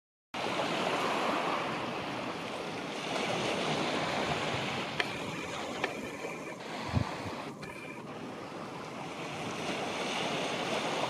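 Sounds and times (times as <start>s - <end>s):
waves on rocky shore: 0.4s - 11.0s.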